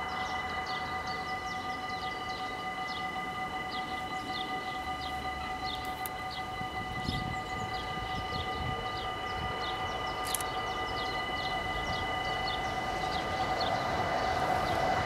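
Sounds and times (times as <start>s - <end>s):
level crossing bell ringing: 0.0s - 15.0s.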